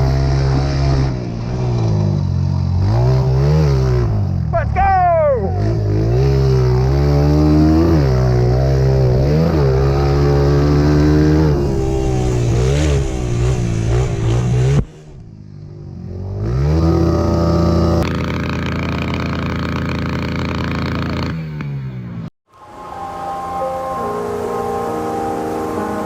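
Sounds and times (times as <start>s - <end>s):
dirt bike engine revving: 0.0s - 22.2s.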